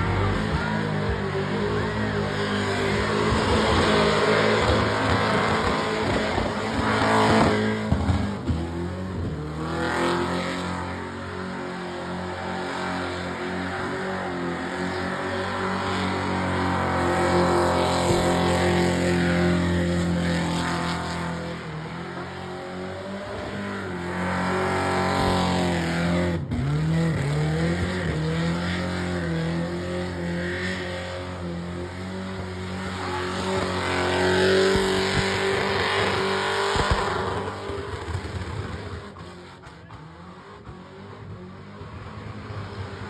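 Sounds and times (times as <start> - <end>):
car engine revving high: 0.0 - 43.0.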